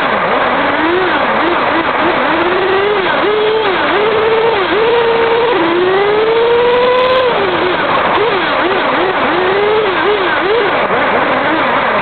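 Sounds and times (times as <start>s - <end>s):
toy car motor revving: 0.0s - 12.0s.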